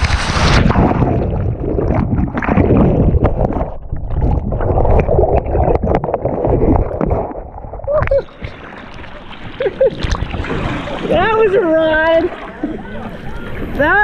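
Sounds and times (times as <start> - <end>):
muffled underwater churning rumble: 0.0 - 14.0.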